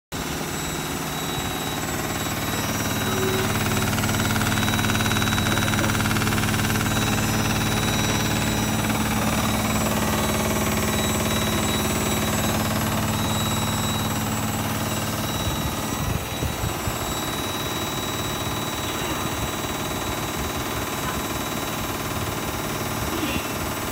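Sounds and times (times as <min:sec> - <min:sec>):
washing machine spinning: 0:00.1 - 0:23.9.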